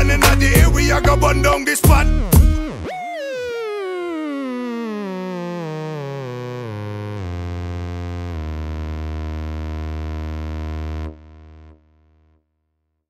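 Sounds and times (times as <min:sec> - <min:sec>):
synthesizer tone stepping down: 0:00.0 - 0:11.8.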